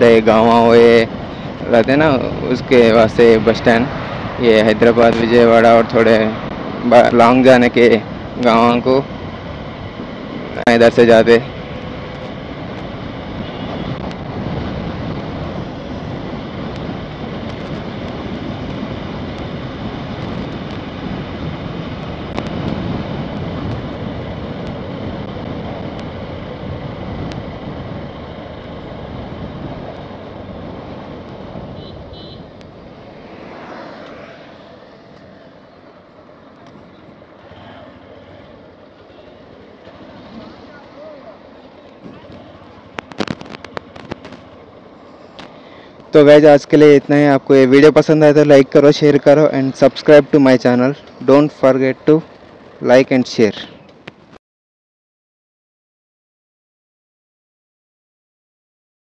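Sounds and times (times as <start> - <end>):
motorcycle running: 0.0 - 54.4
wind rushing over microphone: 0.0 - 54.4.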